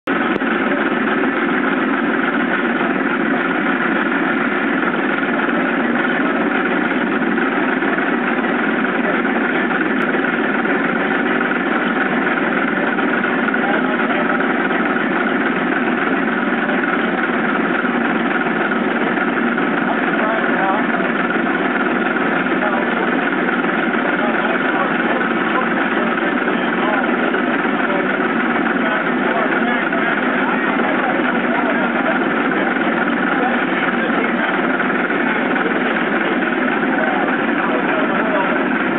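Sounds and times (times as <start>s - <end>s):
air hammer compressor running: 0.0s - 38.9s.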